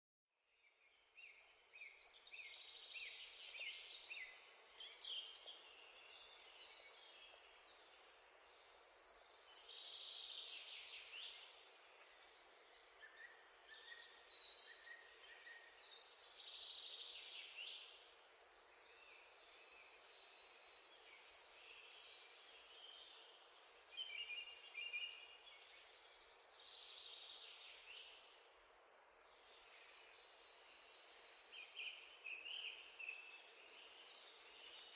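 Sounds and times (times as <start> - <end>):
steady background hiss: 1.2 - 34.9
birds chirping and trilling: 1.3 - 28.4, 29.0 - 34.9.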